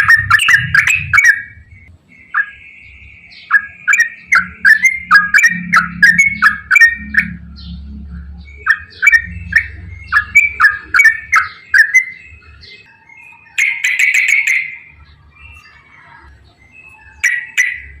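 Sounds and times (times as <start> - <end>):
bird chatter: 0.0 - 18.0
bird singing bubbly notes: 0.0 - 18.0.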